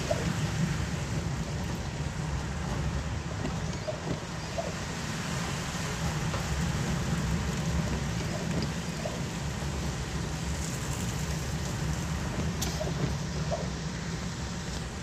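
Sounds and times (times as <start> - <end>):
car engine rumble: 0.0 - 15.0
rain on a car: 0.0 - 15.0
tyres on wet street: 0.0 - 15.0.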